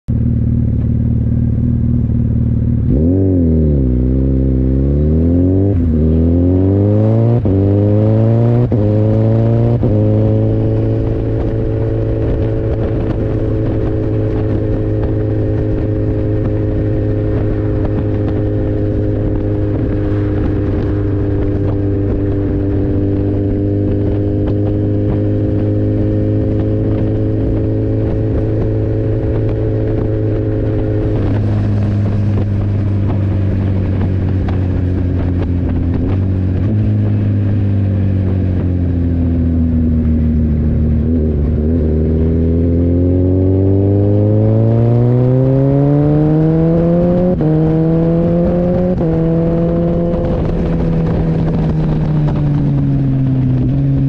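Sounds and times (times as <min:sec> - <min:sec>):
motorcycle engine revving: 0:00.1 - 0:54.0
quick gear upshifts: 0:00.1 - 0:54.0.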